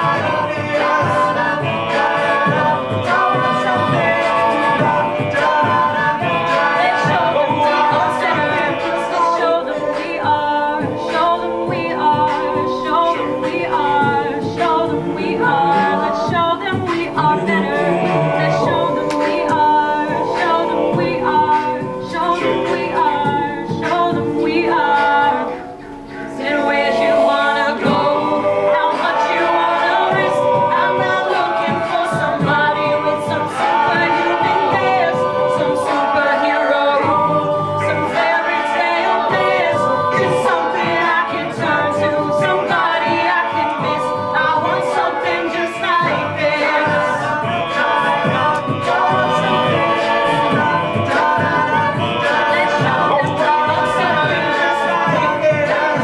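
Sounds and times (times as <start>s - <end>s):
group singing in harmony: 0.0s - 56.0s
vocal percussion beat: 0.0s - 56.0s.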